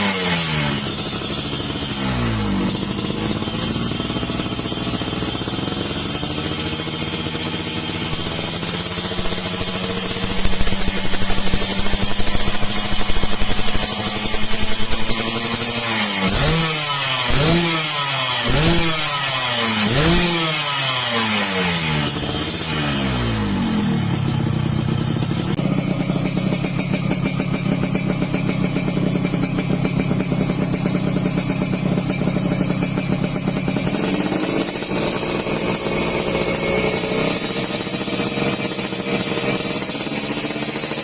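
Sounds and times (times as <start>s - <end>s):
motorcycle engine idling and revving: 0.0s - 41.0s.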